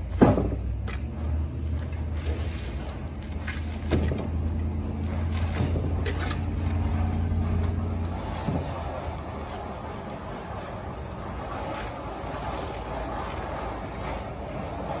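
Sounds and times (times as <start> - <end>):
steady low rumble: 0.6 - 15.0.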